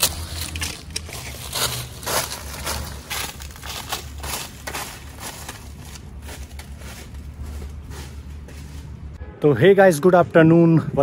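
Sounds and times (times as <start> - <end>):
footsteps crunching on dry leaves: 0.0 - 9.2.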